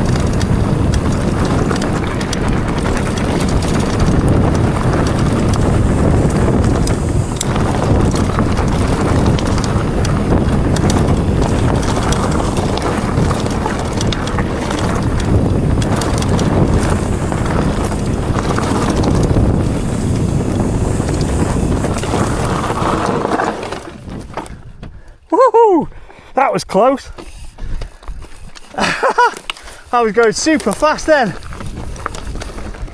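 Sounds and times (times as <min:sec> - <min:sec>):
bike tyres rolling over rough ground: 0:00.0 - 0:25.1, 0:26.6 - 0:32.9
bike rattles and clicks: 0:00.0 - 0:25.3, 0:25.9 - 0:32.9
wind rushing over microphone: 0:00.0 - 0:32.9.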